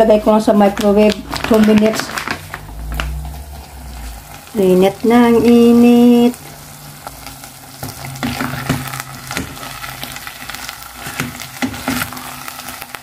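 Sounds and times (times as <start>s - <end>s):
light sizzle: 0.0s - 13.0s.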